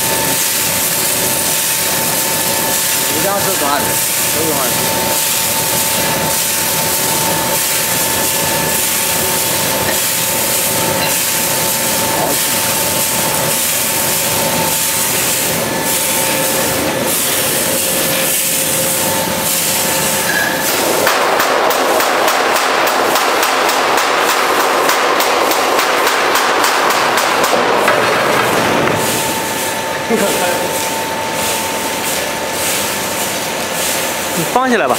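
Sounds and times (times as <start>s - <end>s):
machine drive whine: 0.0s - 34.9s.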